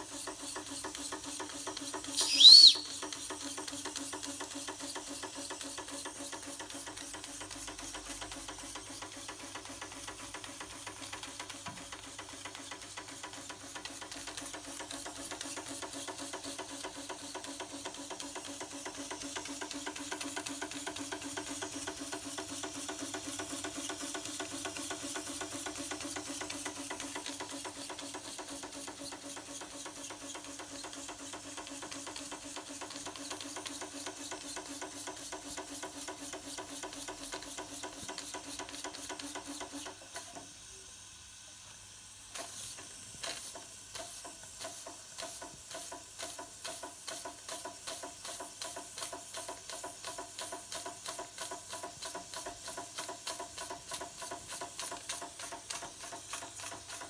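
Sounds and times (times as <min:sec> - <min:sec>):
steam engine chuffing: 0:00.0 - 0:02.2, 0:02.8 - 0:57.0
steam hiss: 0:00.0 - 0:57.0.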